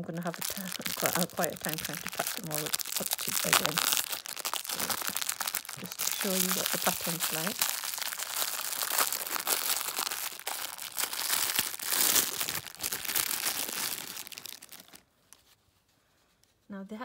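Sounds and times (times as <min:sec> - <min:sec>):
plastic wrapping crinkling: 0:00.0 - 0:15.6.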